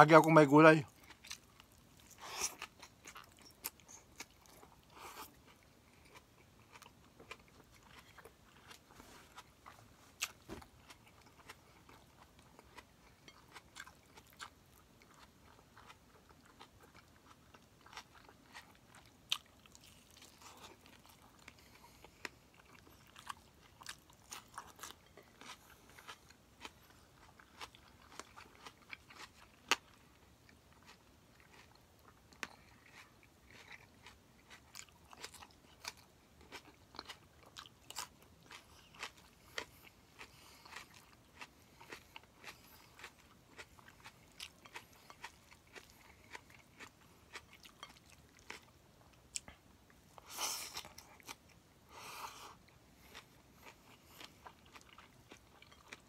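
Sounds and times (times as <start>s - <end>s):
person chewing food: 0.2s - 56.0s.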